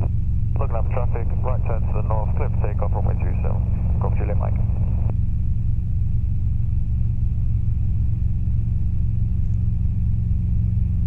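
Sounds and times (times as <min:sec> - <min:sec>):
helicopter engine and rotors droning: 0:00.0 - 0:11.0.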